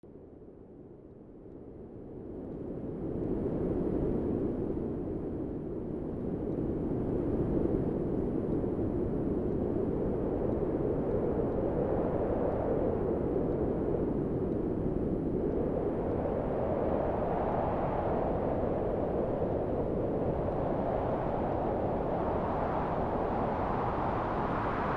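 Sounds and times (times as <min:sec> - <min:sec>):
strong wind blowing: 0:02.9 - 0:24.9.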